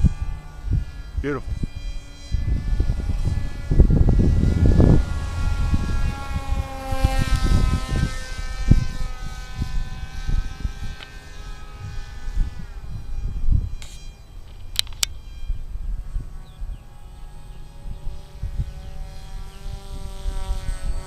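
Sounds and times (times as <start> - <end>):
model plane motor whining: 0.0 - 21.0
wind buffeting microphone: 0.0 - 21.0.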